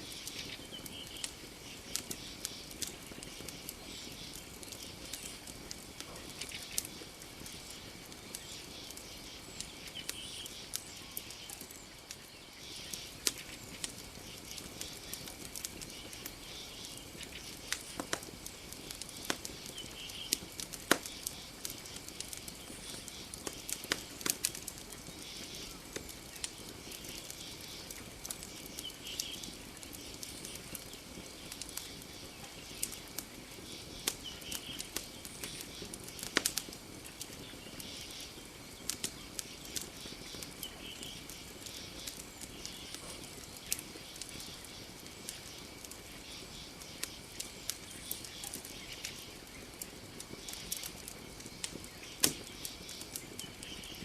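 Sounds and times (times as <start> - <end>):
campfire crackling and popping: 0.0 - 54.0
night insects chorus: 0.0 - 54.0.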